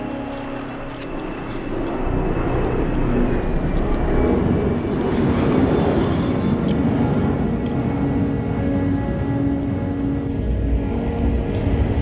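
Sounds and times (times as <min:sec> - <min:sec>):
aeroplane engine rumble: 0:00.0 - 0:12.0.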